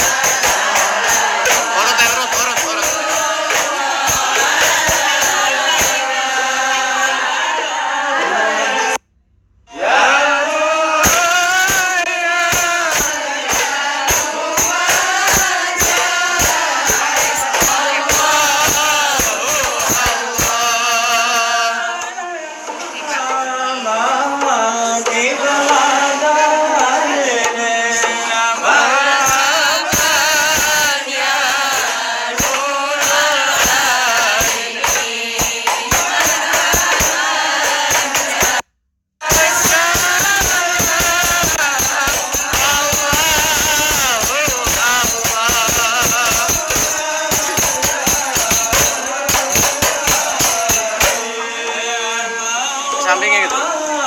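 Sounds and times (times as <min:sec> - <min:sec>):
tambourine beating: 0:00.0 - 0:07.4, 0:11.0 - 0:22.0, 0:27.4 - 0:53.4
group singing devotional verses: 0:00.0 - 0:09.0, 0:09.7 - 0:38.6, 0:39.2 - 0:54.0.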